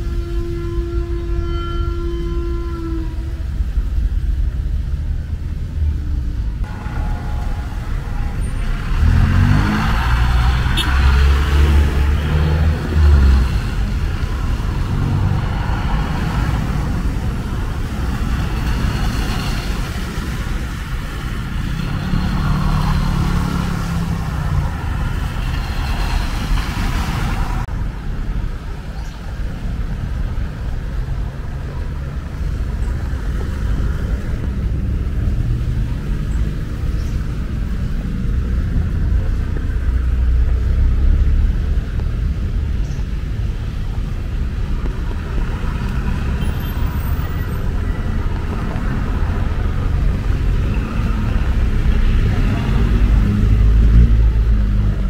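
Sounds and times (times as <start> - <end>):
heavy engine: 0.0 - 55.0
vehicles passing: 0.0 - 55.0.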